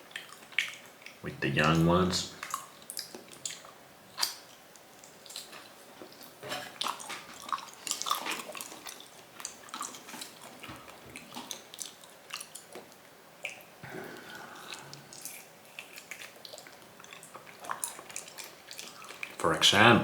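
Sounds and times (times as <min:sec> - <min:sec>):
chewing raw meat: 0:00.0 - 0:19.4.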